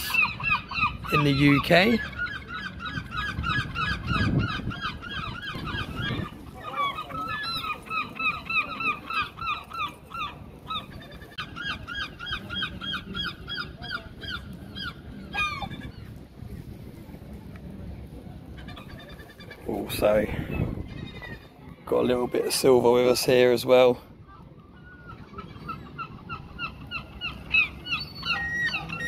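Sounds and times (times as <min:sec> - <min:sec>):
gulls calling: 0:00.0 - 0:16.3, 0:18.2 - 0:29.0.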